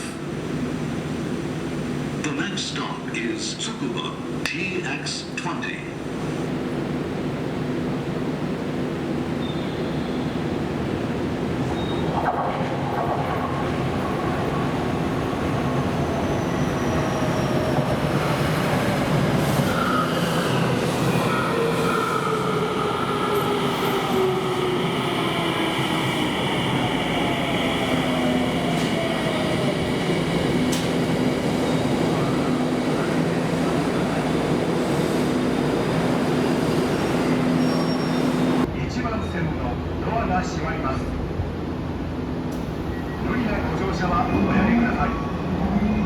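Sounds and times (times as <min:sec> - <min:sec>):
train rumbling on rails: 0:00.0 - 0:46.0.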